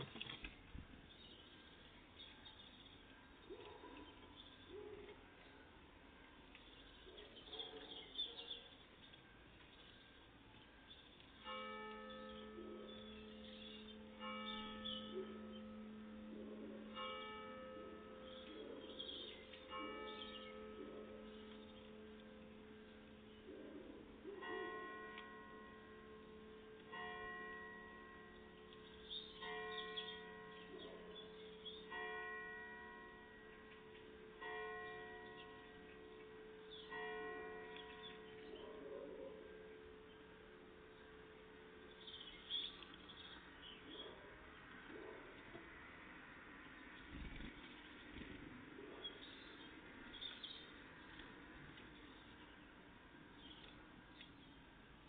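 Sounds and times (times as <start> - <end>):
church bell ringing: 1.2 - 47.0, 48.1 - 55.0.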